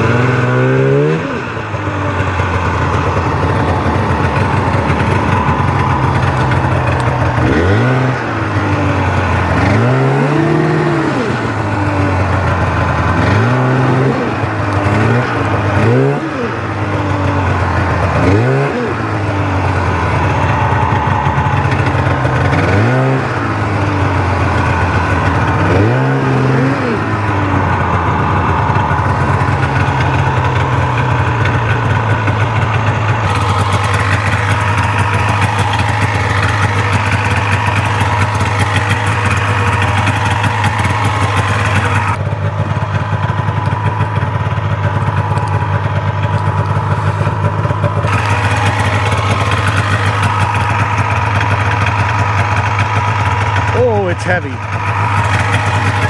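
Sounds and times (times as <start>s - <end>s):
snowmobile engine idling and revving: 0.0s - 56.0s.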